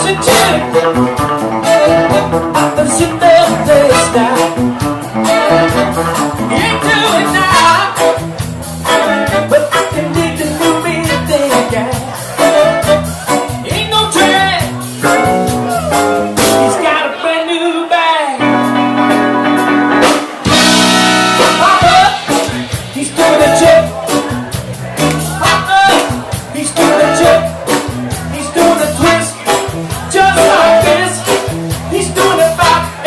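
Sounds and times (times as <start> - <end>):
person singing: 0.0 - 8.2, 8.8 - 18.9, 20.5 - 33.0
funk band playing: 0.0 - 33.0.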